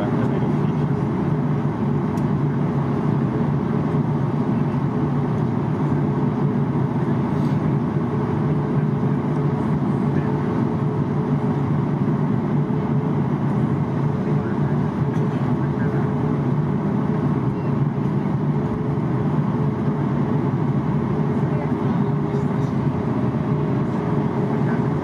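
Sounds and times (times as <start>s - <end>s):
airplane cabin hum: 0.0s - 25.0s.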